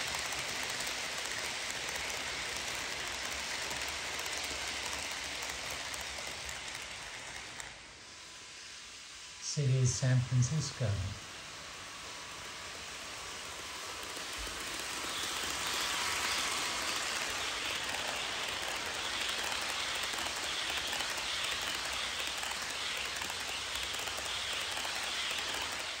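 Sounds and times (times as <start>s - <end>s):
model train wheels clattering: 0.0s - 8.0s, 11.3s - 26.0s.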